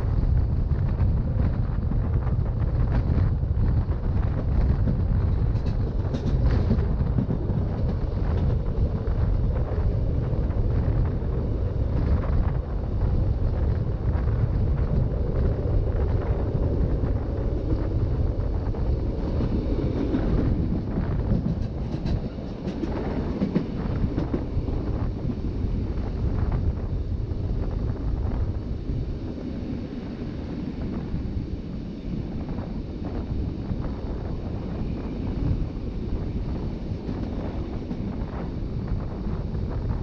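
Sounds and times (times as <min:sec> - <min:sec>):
train wheels rumbling on rail: 0:00.0 - 0:40.0
wind buffeting microphone: 0:00.0 - 0:40.0.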